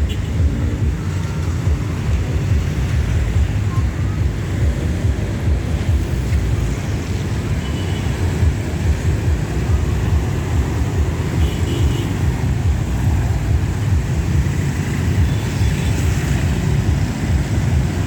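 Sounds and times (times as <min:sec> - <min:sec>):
passing vehicles rumbling: 0:00.0 - 0:18.0.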